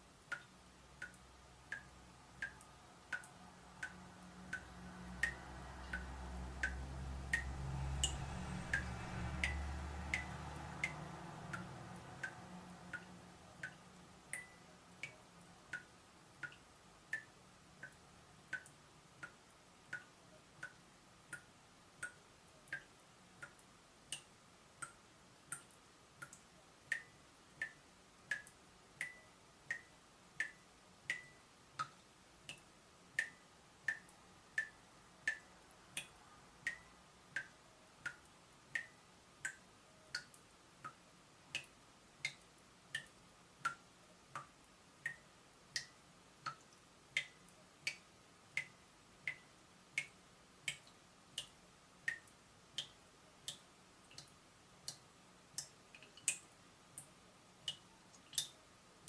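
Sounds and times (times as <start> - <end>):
water dripping from a tap: 0.2 - 58.6.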